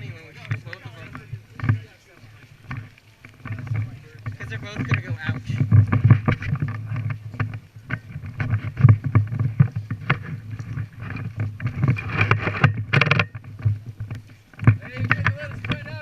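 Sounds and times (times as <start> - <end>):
rustling close to microphone: 0.0 - 16.0.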